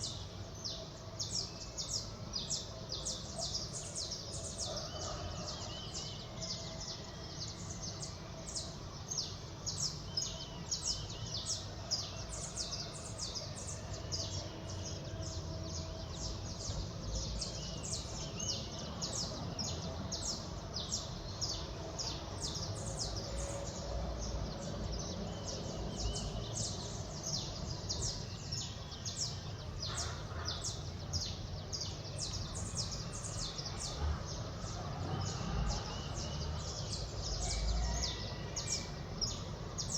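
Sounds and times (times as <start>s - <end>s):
low city rumble: 0.0s - 39.9s
small birds chirping: 0.0s - 39.9s.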